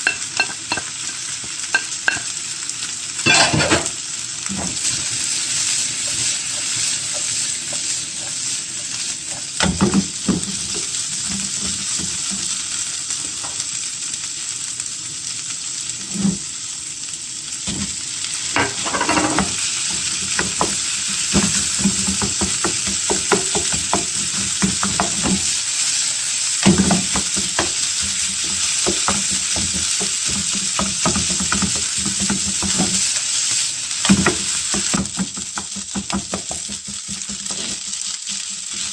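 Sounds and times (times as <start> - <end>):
spatula scraping and tapping pan: 0.0 - 2.4, 3.2 - 12.5, 17.7 - 38.9
food sizzling in a frying pan: 0.0 - 38.9.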